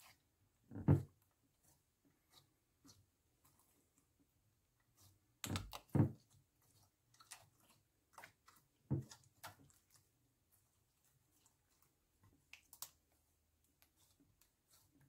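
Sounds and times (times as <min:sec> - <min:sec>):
slime squishing by hand: 0:00.0 - 0:15.0.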